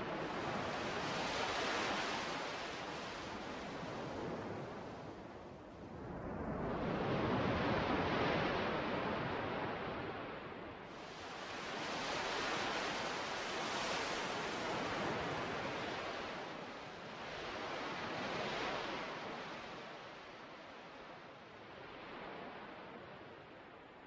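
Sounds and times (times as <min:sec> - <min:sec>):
ocean waves washing in: 0:00.0 - 0:24.0.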